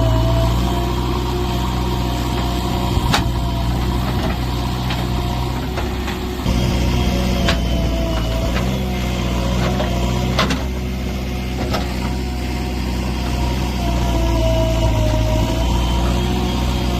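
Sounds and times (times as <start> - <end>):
diesel engine running at low revs: 0.0 - 16.9.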